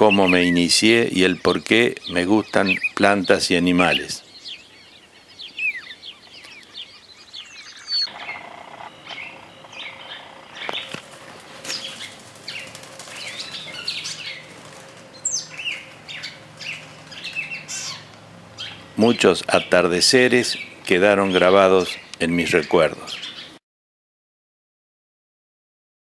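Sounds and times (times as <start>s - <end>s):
wild birds chirping and calling: 0.0s - 23.6s.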